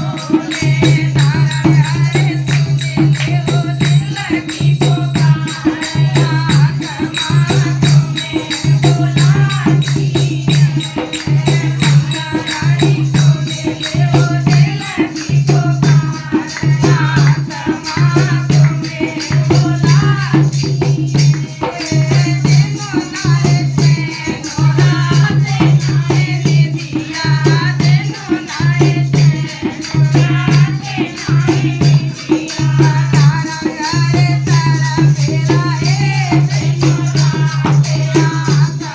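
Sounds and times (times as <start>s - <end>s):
shaker rhythm: 0.0s - 38.9s.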